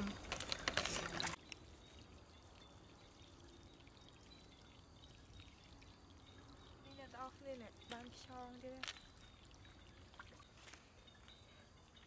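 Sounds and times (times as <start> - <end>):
faint stream trickling: 0.0 - 12.0.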